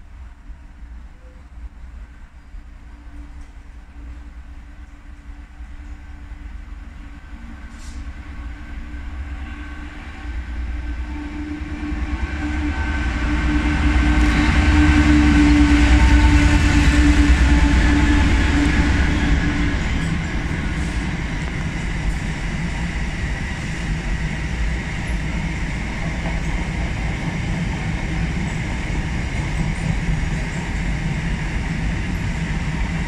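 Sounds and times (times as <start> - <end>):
diesel locomotive engine drone: 0.0 - 33.0
train wheels rumbling on rails: 0.0 - 33.0.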